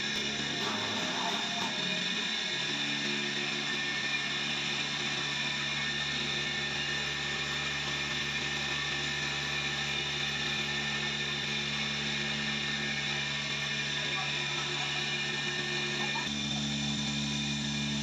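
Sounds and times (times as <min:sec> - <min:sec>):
flour mill machinery humming: 0:00.0 - 0:18.0.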